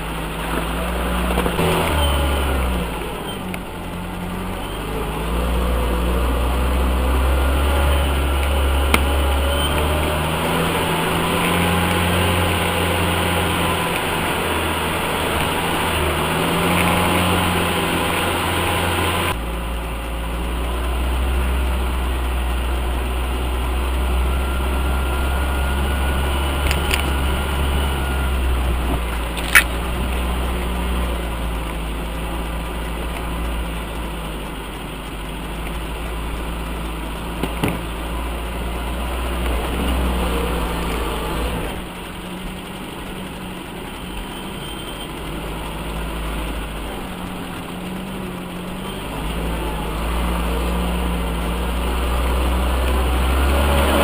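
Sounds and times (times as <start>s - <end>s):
vehicle engine at low revs: 0.0s - 54.0s.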